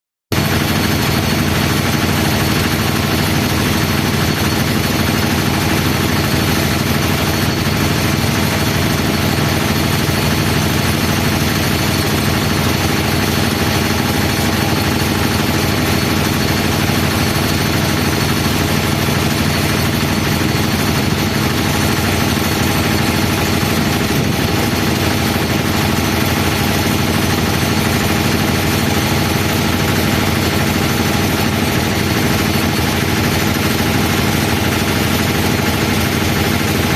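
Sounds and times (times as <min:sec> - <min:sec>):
jet engines idling: 0:00.4 - 0:36.9.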